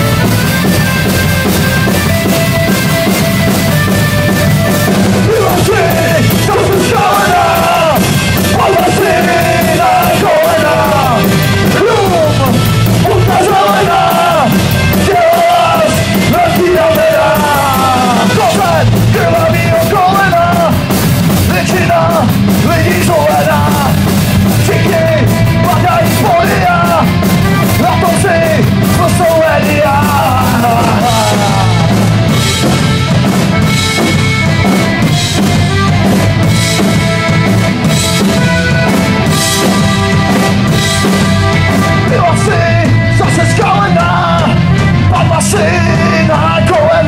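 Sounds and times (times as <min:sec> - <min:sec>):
accordion: 0:00.0 - 0:17.3, 0:24.7 - 0:29.6, 0:31.3 - 0:47.0
drum kit: 0:00.0 - 0:47.0
electric bass: 0:00.0 - 0:47.0
electric guitar: 0:00.0 - 0:47.0
punk rock band playing loudly: 0:00.0 - 0:47.0.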